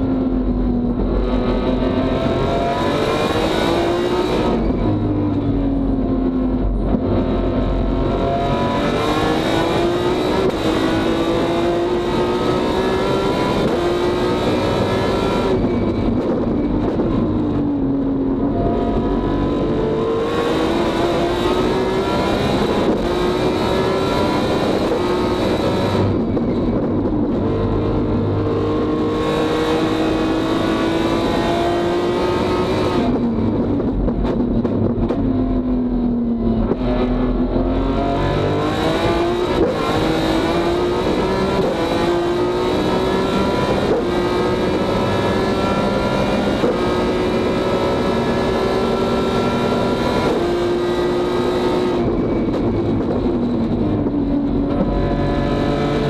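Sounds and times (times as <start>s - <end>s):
race car engine revving: 0.4s - 5.2s, 5.8s - 56.0s.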